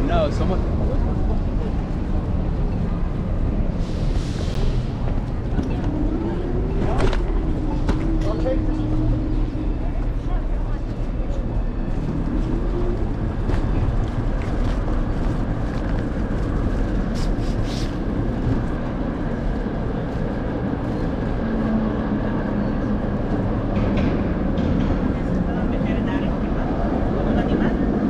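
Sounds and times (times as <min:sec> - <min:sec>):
city traffic: 0:00.0 - 0:28.0.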